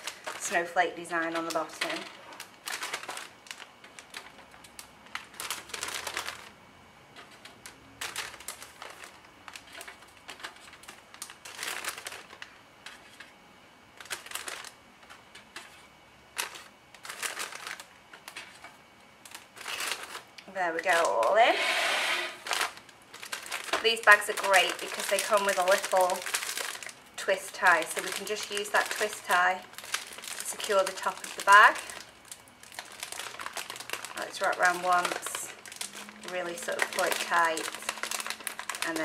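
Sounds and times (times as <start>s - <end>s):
plastic bag crinkling: 0.0s - 13.3s, 13.9s - 39.0s.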